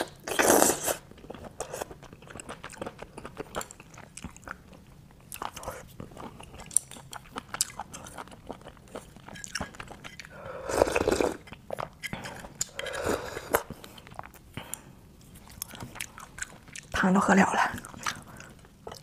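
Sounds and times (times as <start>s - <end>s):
wet chewing with mouth clicks: 0.0s - 19.0s.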